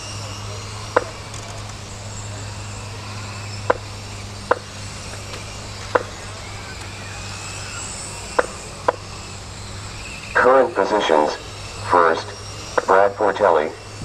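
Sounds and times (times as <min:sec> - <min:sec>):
rc car motors whining: 0:00.0 - 0:14.0
steady low hum: 0:00.0 - 0:14.0.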